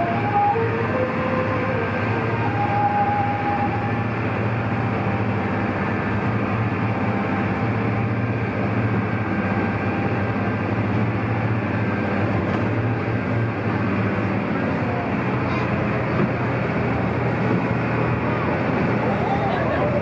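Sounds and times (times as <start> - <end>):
boat engine droning: 0.0 - 20.0
water rushing against hull: 0.0 - 20.0.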